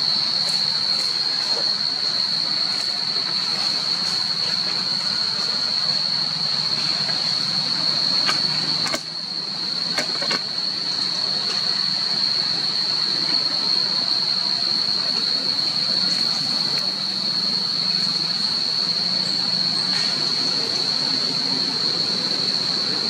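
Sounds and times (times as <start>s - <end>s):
continuous hiss: 0.0s - 23.0s
high-pitched insect chorus: 0.0s - 23.0s.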